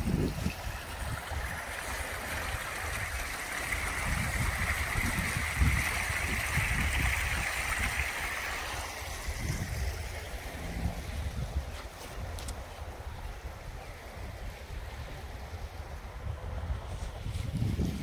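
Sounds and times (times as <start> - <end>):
water gushing from drain pipe: 0.0 - 18.0
wind buffeting on microphone: 0.0 - 18.0.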